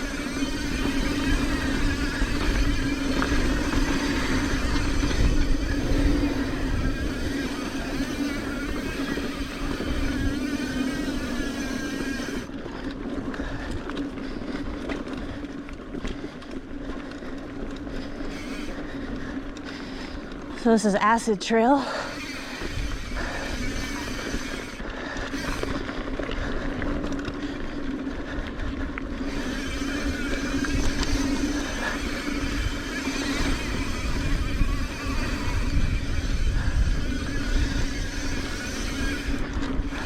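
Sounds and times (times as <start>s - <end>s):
wind buffeting microphone: 0.0s - 16.7s, 21.8s - 40.0s
bicycle tyres and drivetrain: 0.0s - 40.0s.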